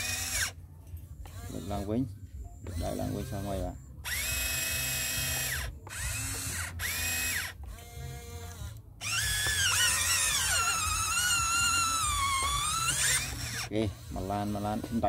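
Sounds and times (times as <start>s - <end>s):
small electric motors whining: 0.0s - 0.6s, 1.2s - 15.0s.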